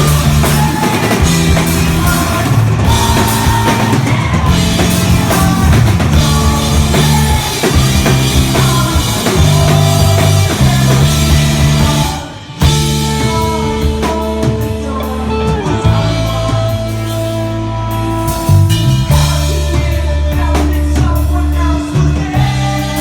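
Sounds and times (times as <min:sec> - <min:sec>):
rock music with drums and guitar: 0:00.0 - 0:23.0.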